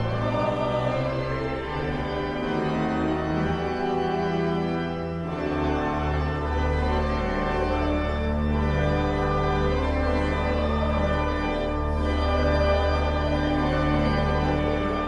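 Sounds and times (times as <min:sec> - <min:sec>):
organ playing full chords: 0:00.0 - 0:15.0.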